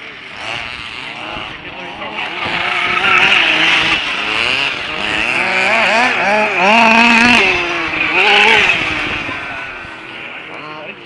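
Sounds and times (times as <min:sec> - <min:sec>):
rc buggy motors revving: 0:00.0 - 0:11.0.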